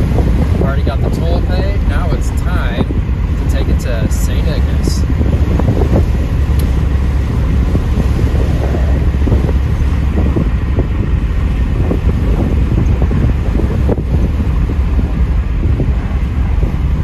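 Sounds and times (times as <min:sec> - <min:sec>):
car engine and road noise: 0:00.0 - 0:17.0
wind buffeting microphone: 0:00.0 - 0:17.0.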